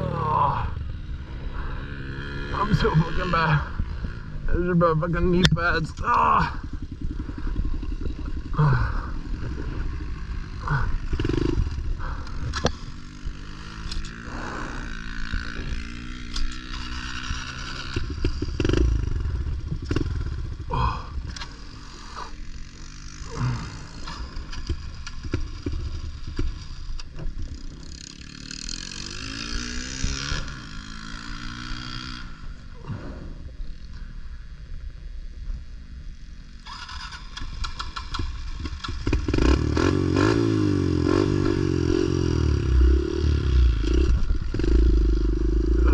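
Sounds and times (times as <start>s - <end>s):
pit bike engine revving: 0.0s - 33.0s, 36.6s - 45.9s.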